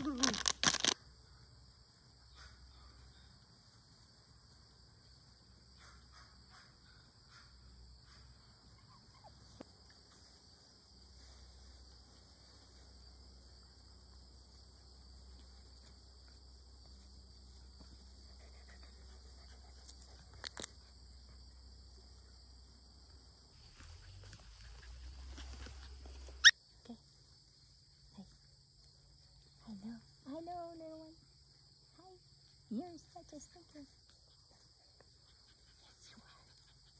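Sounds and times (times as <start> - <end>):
insects chirring: 0.0 - 36.9.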